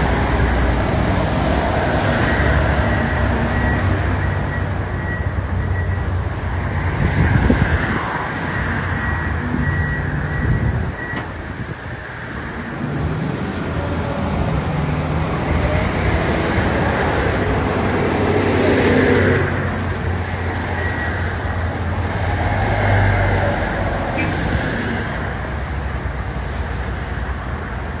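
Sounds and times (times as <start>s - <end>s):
heavy diesel engines droning: 0.0s - 28.0s.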